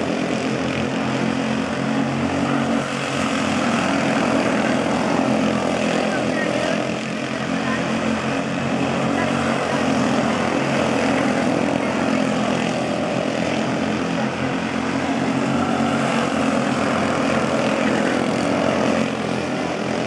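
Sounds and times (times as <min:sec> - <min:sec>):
small race car engines buzzing: 0:00.0 - 0:20.0.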